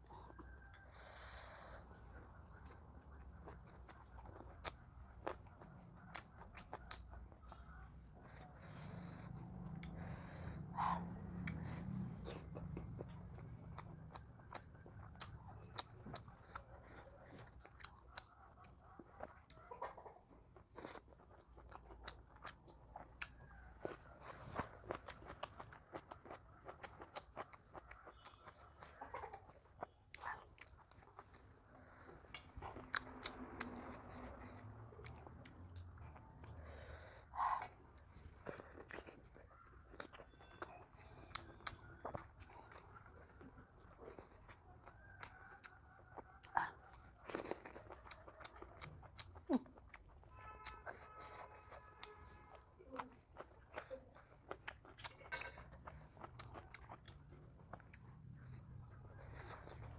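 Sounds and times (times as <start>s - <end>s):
close-up chewing: 0.0s - 59.9s.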